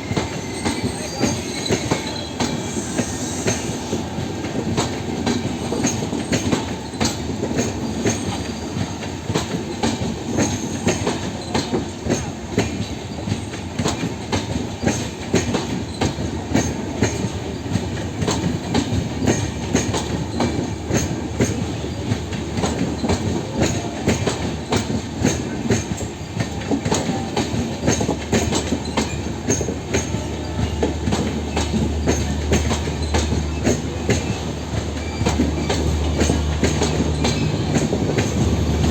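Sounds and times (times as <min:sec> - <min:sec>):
train rumble: 0:00.0 - 0:38.9
train wheels clickety-clack: 0:00.0 - 0:38.9.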